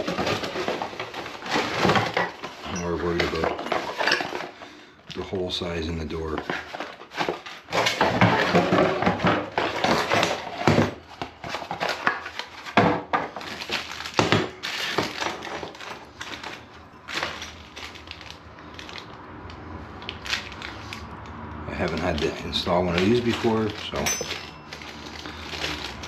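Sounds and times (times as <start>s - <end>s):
parts clicking and rattling: 0.0s - 4.6s, 6.4s - 26.0s
plastic packaging crinkling: 0.0s - 4.6s, 6.2s - 26.0s.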